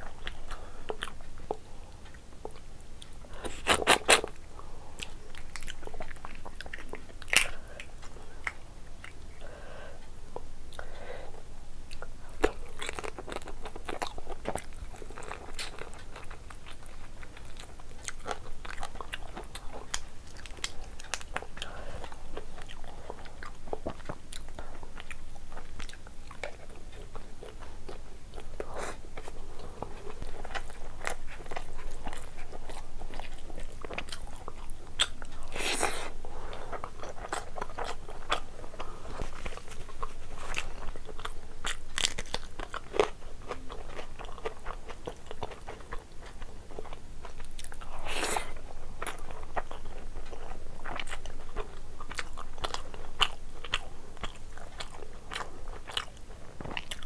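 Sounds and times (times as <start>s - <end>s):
chewing with wet clicks: 0.0s - 4.4s, 5.0s - 9.3s, 11.8s - 35.6s, 36.5s - 48.0s, 48.6s - 57.0s.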